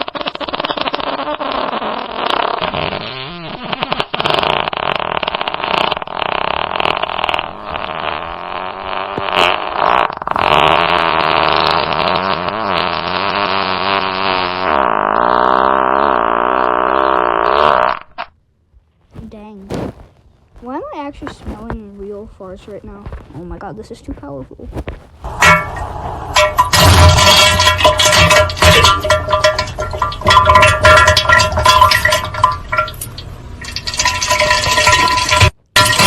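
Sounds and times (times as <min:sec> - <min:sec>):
crackling fart sound effect: 0:00.0 - 0:36.0.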